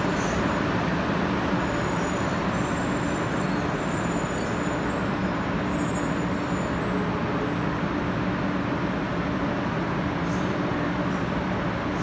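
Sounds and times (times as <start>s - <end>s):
thin high train whine: 0.0s - 12.0s.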